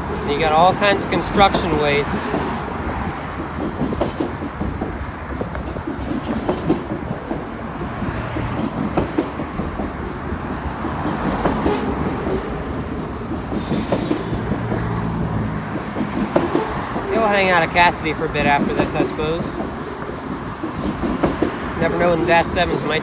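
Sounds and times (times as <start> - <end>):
freight train rolling past: 0.0 - 23.0
wheels clanking over rail joints: 0.0 - 23.0.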